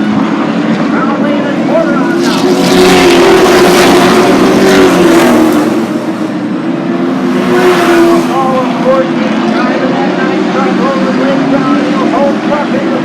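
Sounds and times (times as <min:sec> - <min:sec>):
race truck engines: 0:00.0 - 0:13.0
trucks passing by: 0:00.0 - 0:13.0.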